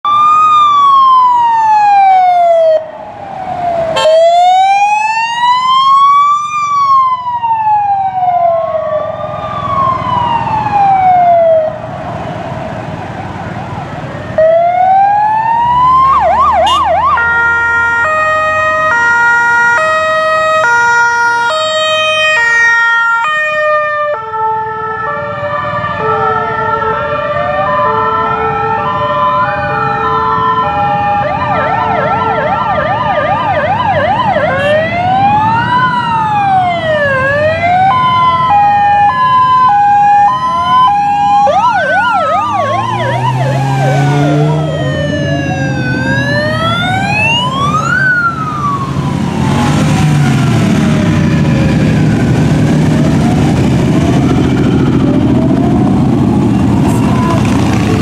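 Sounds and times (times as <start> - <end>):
police sirens wailing: 0.0 - 58.0.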